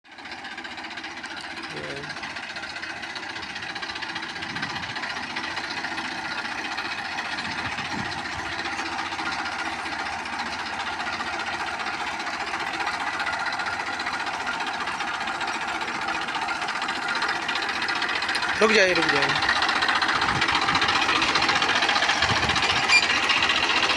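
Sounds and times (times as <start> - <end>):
tractor diesel engine running: 0.0 - 23.9.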